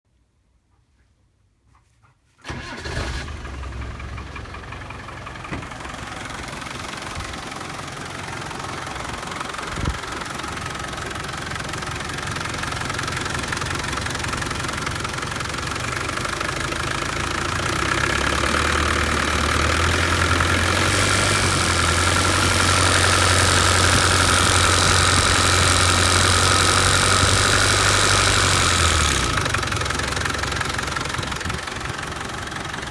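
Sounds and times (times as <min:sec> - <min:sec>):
diesel engine running: 0:02.5 - 0:32.9
engine rattling and ticking: 0:02.5 - 0:32.9.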